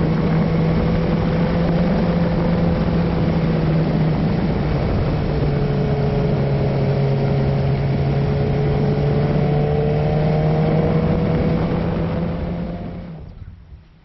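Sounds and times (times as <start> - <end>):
motorcycle engine running: 0.0 - 13.2
wind and road noise: 0.0 - 14.0.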